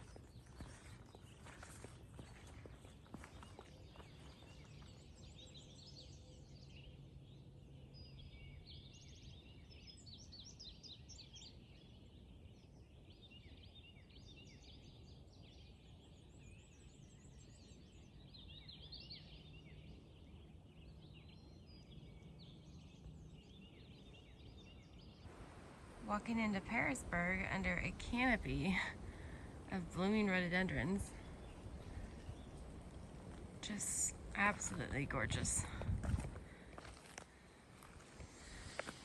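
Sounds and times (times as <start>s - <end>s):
faint songbirds singing: 0.0s - 39.0s.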